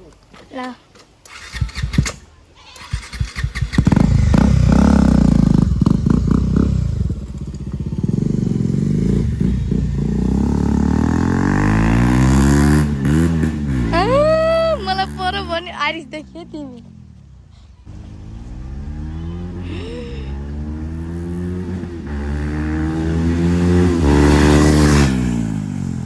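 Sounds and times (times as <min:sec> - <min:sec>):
motorcycle revving past: 0:01.3 - 0:26.0.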